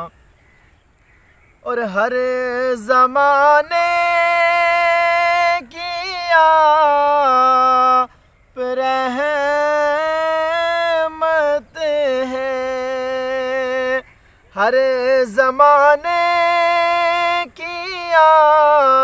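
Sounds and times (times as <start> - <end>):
man chanting unaccompanied: 0.0 - 0.2, 1.6 - 19.0.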